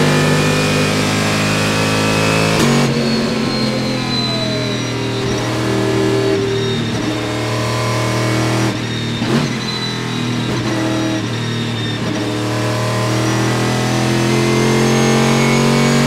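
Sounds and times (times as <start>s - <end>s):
race engine running hard: 0.0s - 16.0s.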